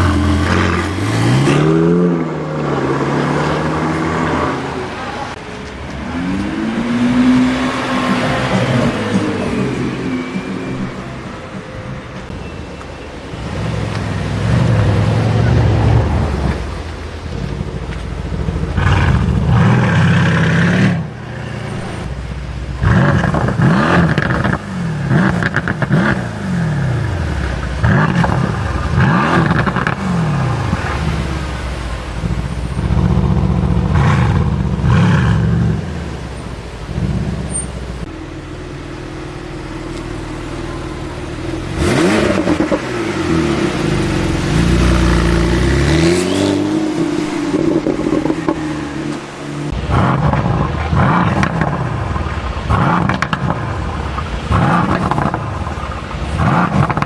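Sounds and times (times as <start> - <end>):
sports car engines revving: 0.0 - 57.0.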